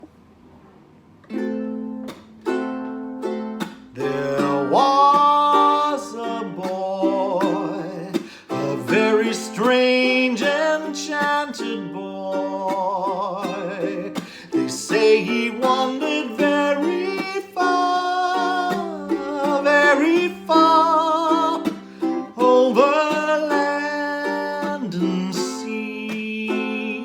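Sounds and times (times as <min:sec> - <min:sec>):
ukulele strumming chords: 0:01.2 - 0:27.0
person singing slow melody: 0:03.9 - 0:27.0.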